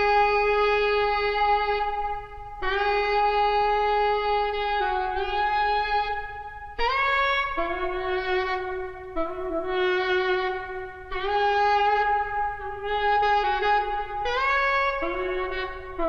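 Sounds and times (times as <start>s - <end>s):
slow wind instrument film music: 0.0s - 16.0s.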